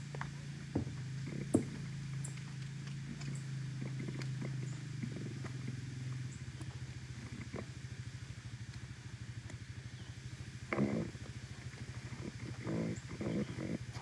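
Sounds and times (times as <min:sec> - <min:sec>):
low pulsing motor drone: 0:00.0 - 0:14.0.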